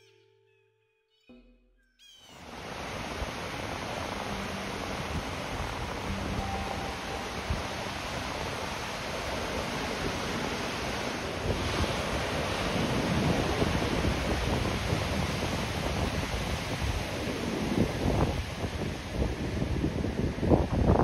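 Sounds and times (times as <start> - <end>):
ocean waves breaking: 2.4 - 21.0
wind buffeting microphone: 2.5 - 21.0.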